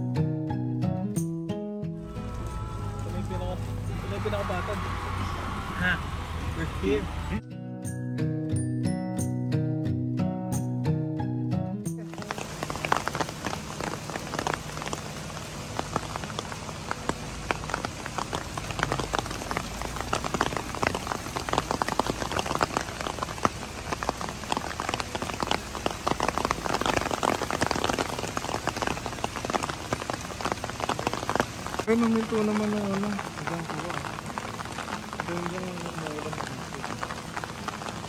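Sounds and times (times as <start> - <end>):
rain falling: 2.0 - 7.4, 11.9 - 38.0
raindrops ticking close by: 2.0 - 7.4, 12.0 - 38.0.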